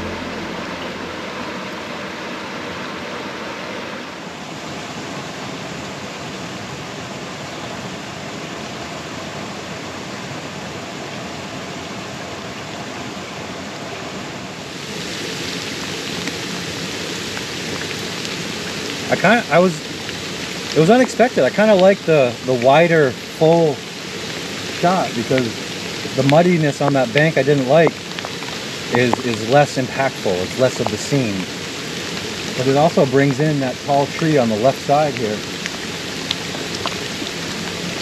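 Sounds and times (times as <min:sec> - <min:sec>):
creek and waterfall rushing: 0:00.0 - 0:38.0
rain falling on water: 0:00.0 - 0:38.0.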